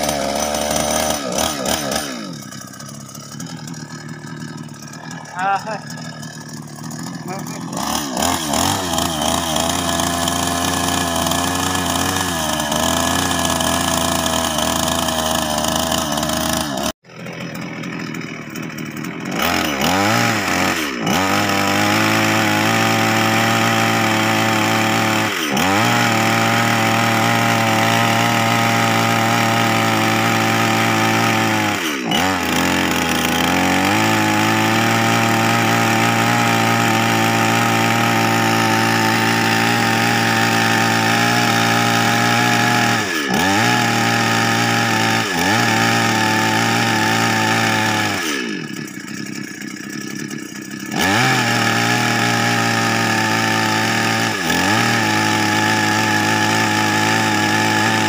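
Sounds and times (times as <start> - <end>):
chainsaw running: 0.0 - 58.0.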